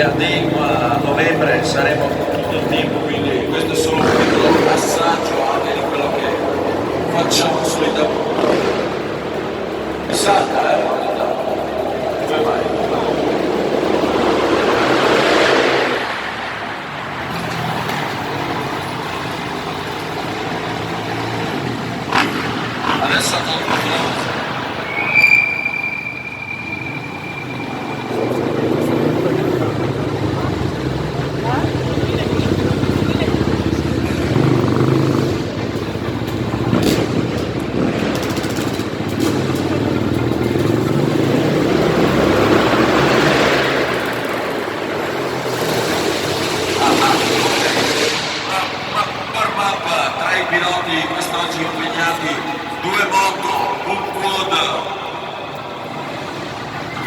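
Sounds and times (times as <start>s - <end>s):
motocross bike engines: 0.0s - 57.0s.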